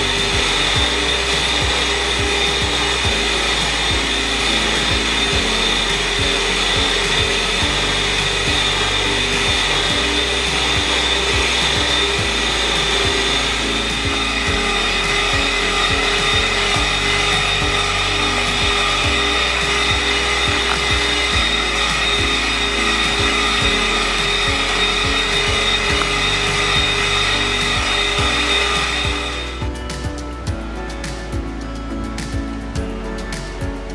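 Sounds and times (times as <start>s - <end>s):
kitchen motor whining: 0.0s - 29.9s
background music: 0.0s - 33.9s.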